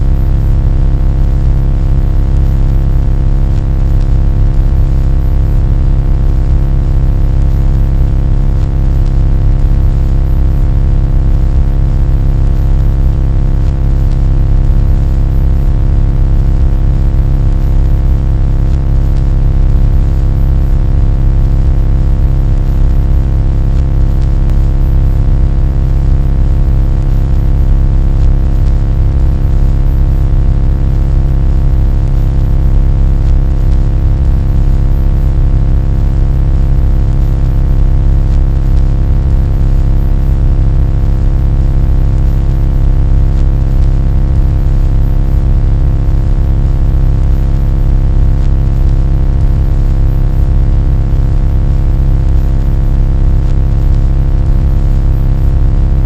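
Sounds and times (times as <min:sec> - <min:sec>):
low droning hum with tones: 0:00.0 - 0:38.8, 0:39.4 - 0:42.8, 0:43.4 - 0:46.6.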